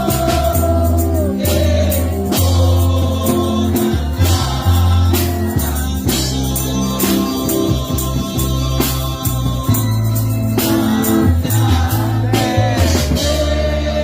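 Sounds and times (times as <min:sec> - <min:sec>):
percussion hits: 0:00.0 - 0:13.8
heavy bass line: 0:00.0 - 0:14.0
worship singing: 0:00.0 - 0:14.0.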